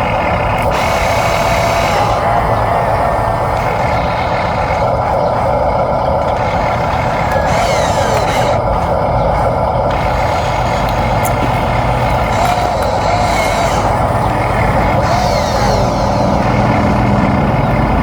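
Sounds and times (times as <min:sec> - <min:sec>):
toy motors whining: 0:00.0 - 0:18.0.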